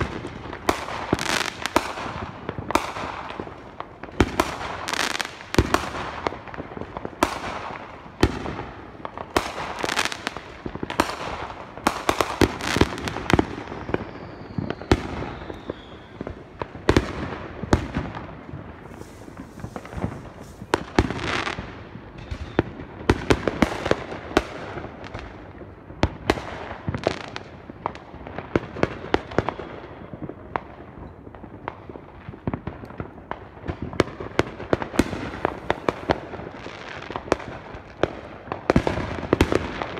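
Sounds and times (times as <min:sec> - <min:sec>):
fireworks bangs and pops: 0:00.0 - 0:39.9.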